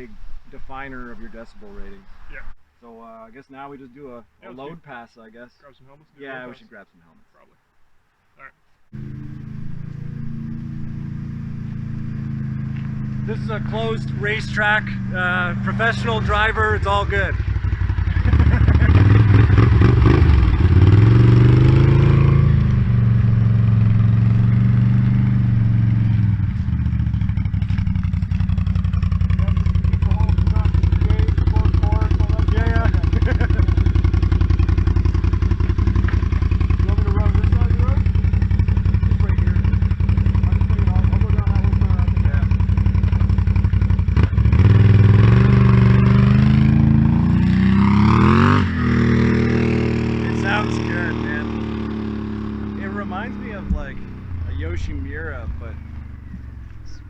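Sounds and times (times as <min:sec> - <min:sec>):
atv engine revving under load: 0:08.9 - 0:57.0.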